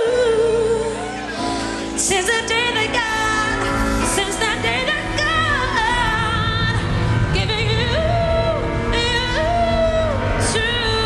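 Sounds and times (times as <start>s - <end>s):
live pop band: 0.0s - 11.0s
woman singing with vibrato: 0.0s - 11.0s.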